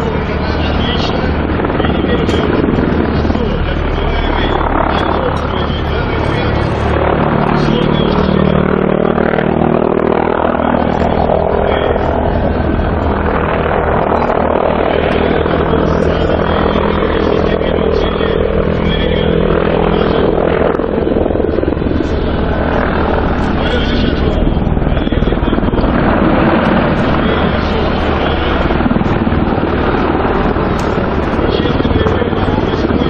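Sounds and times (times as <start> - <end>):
helicopter flying low: 0.0 - 33.0.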